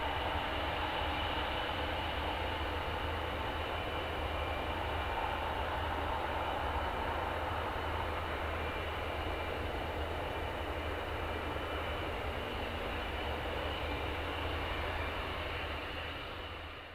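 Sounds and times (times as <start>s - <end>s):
jet engines rumbling with whine: 0.0s - 16.9s.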